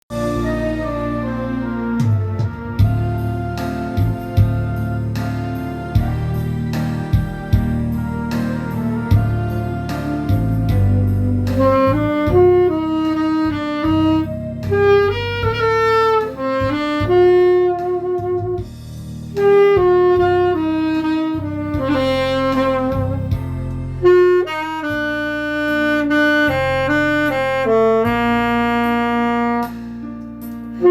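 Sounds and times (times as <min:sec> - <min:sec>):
backing accompaniment with bass: 0:00.1 - 0:30.9
saxophone ballad melody: 0:00.1 - 0:30.9.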